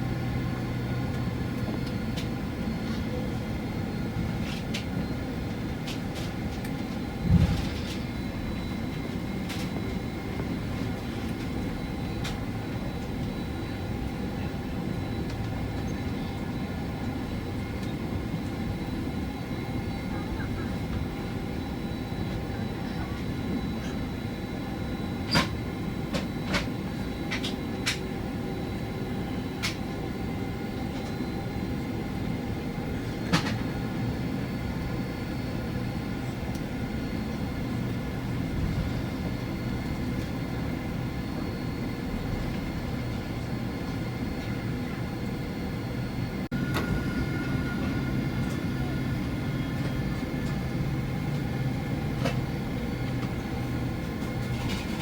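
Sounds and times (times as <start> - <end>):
aircraft cabin engine hum: 0.0 - 55.0
steady whine: 5.9 - 54.9.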